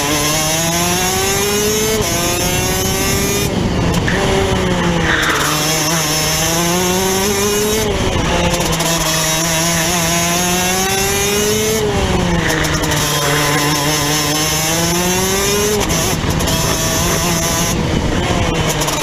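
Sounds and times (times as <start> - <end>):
kart engine revving: 0.0 - 19.0.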